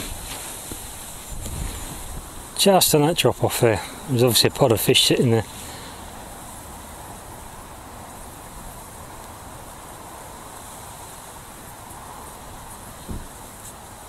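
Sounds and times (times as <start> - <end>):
open-air background hiss: 0.0 - 14.0.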